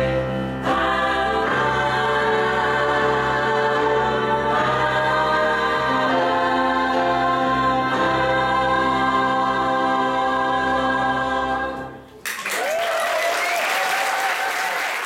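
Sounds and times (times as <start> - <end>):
a cappella harmony singing: 0.0 - 12.2.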